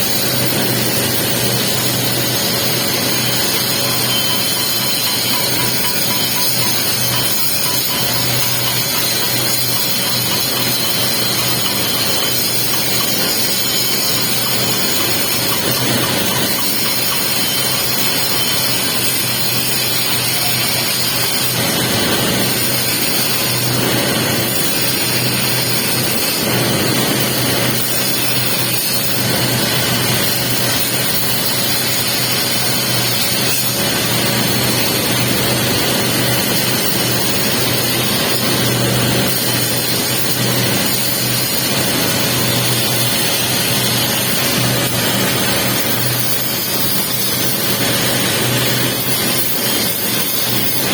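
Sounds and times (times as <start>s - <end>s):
welding arc hiss and crackle: 0.1s - 50.9s.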